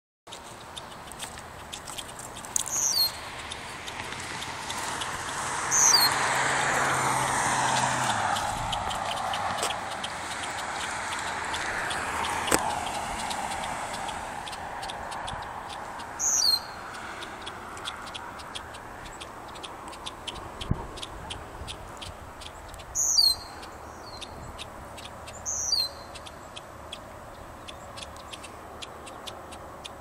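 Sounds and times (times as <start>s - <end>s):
bird sharp high calls: 0.5s - 30.0s.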